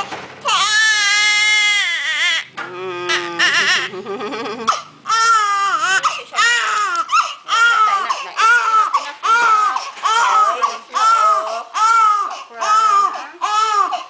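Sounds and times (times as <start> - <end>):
newborn baby crying: 0.4 - 14.0.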